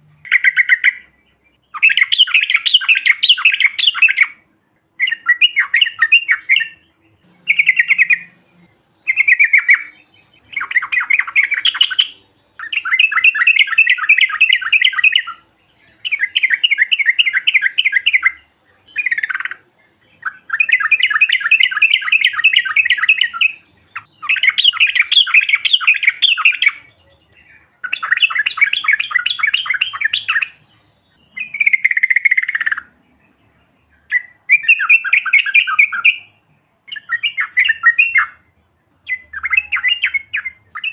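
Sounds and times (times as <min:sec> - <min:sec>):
bird singing rolling trills: 0:00.0 - 0:40.9.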